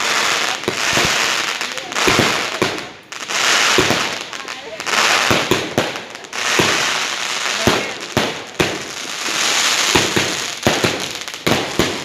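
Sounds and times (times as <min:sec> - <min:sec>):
firecracker bangs: 0:00.0 - 0:12.0
fireworks crackling: 0:00.0 - 0:12.0.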